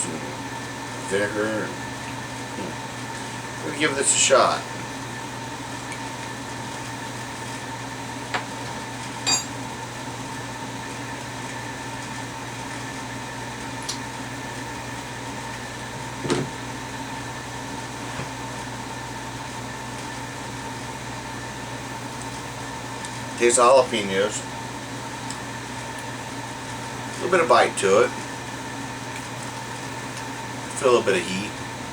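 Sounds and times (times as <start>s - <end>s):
mechanical hum: 0.0s - 31.9s.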